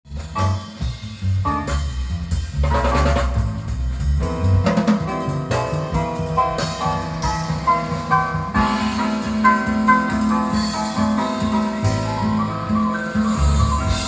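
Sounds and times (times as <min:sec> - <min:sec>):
drum kit and bass music: 0:00.0 - 0:14.0
keyboard melody: 0:00.1 - 0:14.0.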